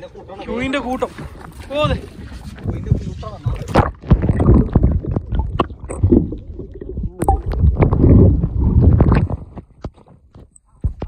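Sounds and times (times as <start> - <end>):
water sloshing and gurgling: 0.0 - 11.0.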